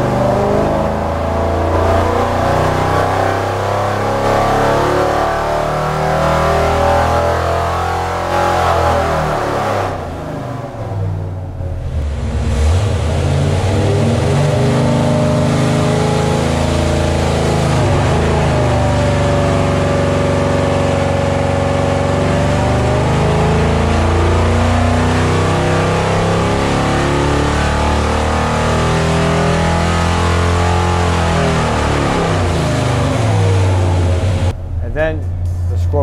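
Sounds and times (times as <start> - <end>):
engine revving at full load: 0.0 - 36.0.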